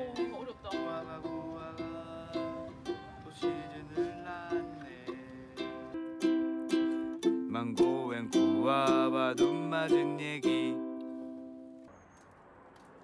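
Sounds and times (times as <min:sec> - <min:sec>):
person singing: 0:00.0 - 0:11.1
ukulele strumming: 0:00.0 - 0:11.9.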